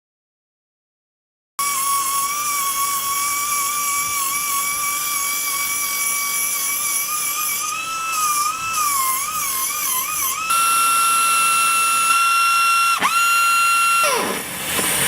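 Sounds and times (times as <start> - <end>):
pneumatic sander whine: 1.6 - 15.0.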